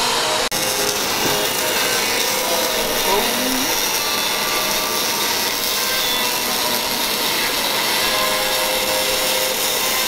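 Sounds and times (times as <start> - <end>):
electric arc torch: 0.0 - 10.0.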